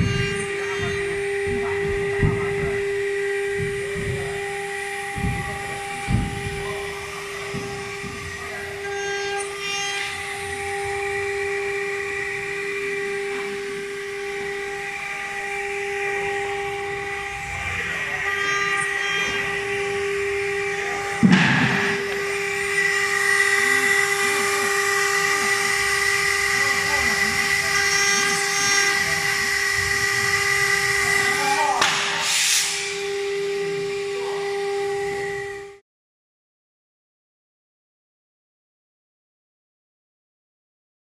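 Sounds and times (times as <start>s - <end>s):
bit cutting wood: 0.0s - 35.4s
router spindle whining: 0.0s - 35.8s.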